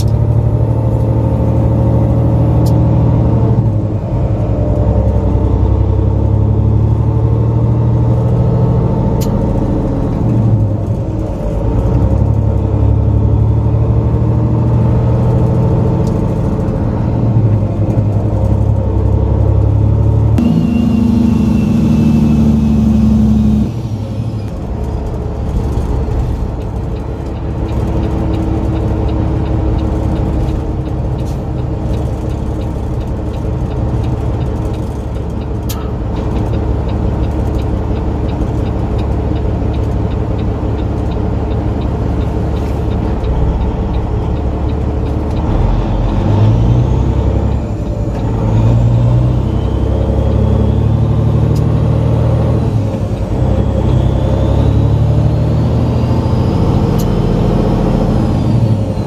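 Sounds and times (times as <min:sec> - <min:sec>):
road rumble: 0:00.0 - 0:59.0
truck diesel engine from inside cab: 0:00.0 - 0:59.0.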